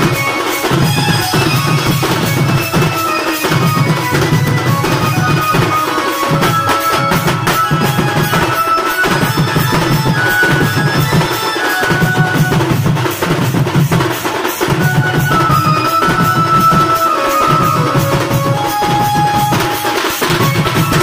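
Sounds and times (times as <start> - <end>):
drums beating: 0.0 - 21.0.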